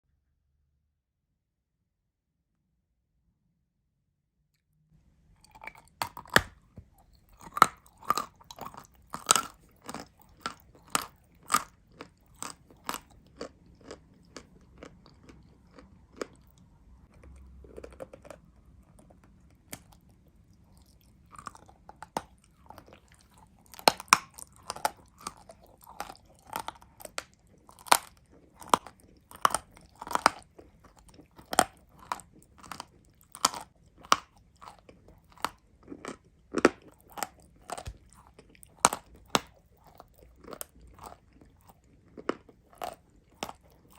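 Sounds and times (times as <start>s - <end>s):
person chewing crunchy clay: 5.4s - 43.9s.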